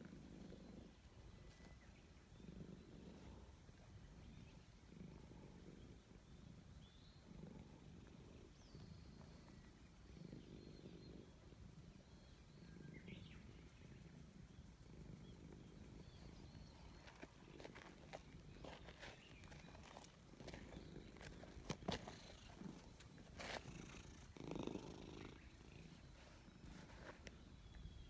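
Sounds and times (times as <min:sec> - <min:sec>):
birds chirping faintly: 0:00.0 - 0:28.0
cat purring: 0:00.0 - 0:28.0.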